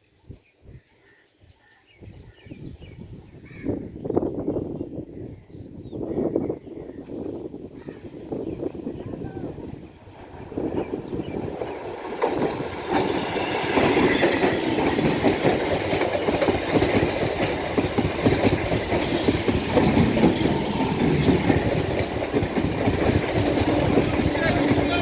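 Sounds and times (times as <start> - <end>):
train rumbling and rattling: 4.3 - 25.0.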